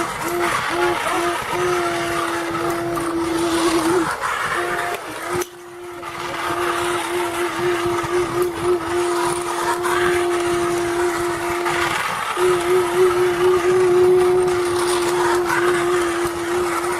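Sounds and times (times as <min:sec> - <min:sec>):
toy train motor humming: 0:00.0 - 0:16.9
toy train rattling on track: 0:00.0 - 0:16.9.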